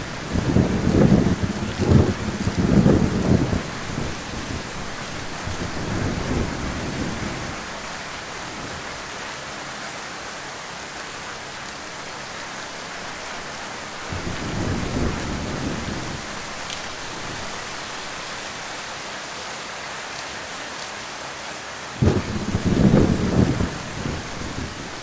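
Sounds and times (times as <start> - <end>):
heavy rain hiss: 0.0 - 25.0.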